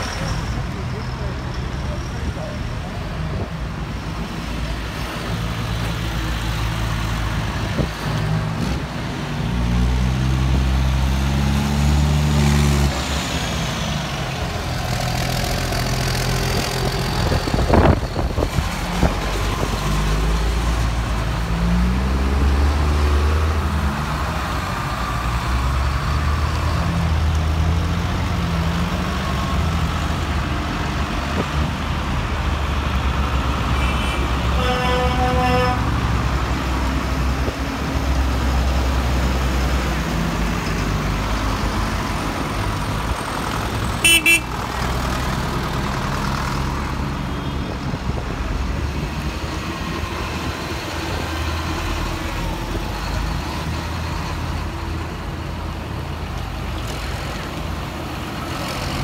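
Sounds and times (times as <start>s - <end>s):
tractor diesel engines passing: 0.0s - 59.0s.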